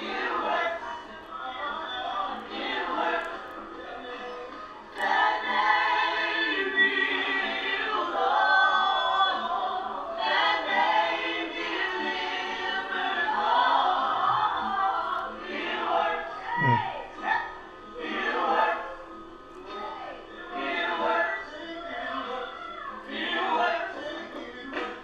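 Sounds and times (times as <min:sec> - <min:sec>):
people singing a cappella: 0:00.0 - 0:25.0.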